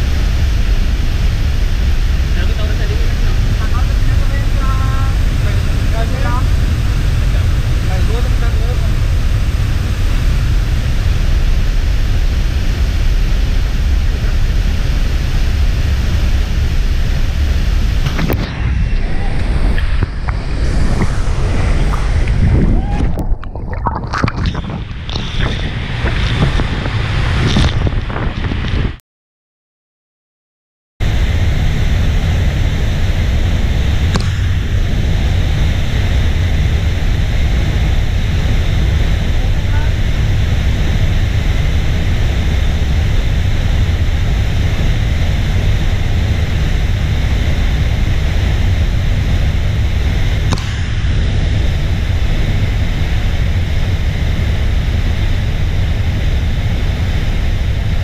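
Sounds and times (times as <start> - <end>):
waterfall roaring: 0.0 - 28.8, 31.0 - 58.0.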